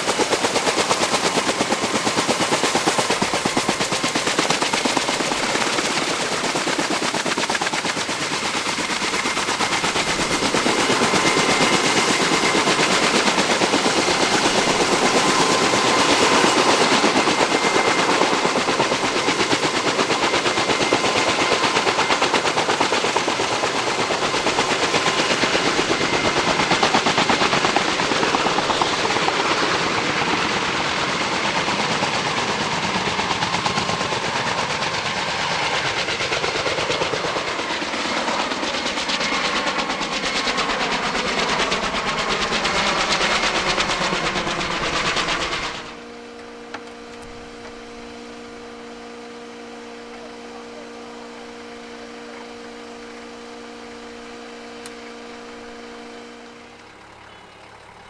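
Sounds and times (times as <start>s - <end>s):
helicopter rotors chopping: 0.0s - 58.0s
turbine engine whine: 0.0s - 58.0s.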